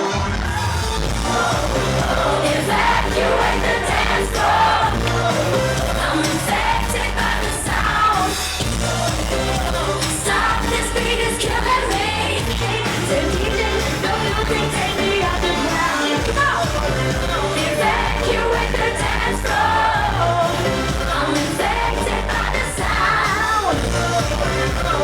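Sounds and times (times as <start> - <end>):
heavy electronic bass beat: 0.0 - 25.0
woman singing: 1.3 - 25.0.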